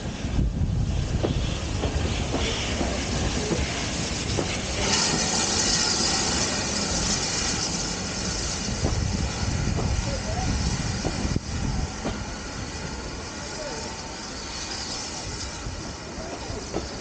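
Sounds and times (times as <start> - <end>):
loud steady hiss: 0.0 - 17.0
train rumbling along track: 0.0 - 17.0.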